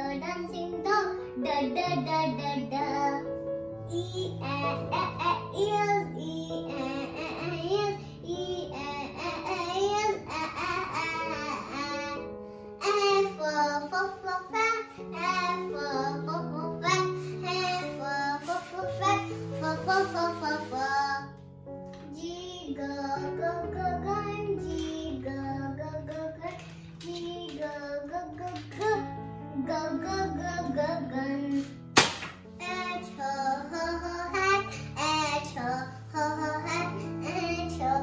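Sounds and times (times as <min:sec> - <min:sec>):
child singing: 0:00.0 - 0:21.4, 0:22.0 - 0:31.7, 0:32.5 - 0:38.0.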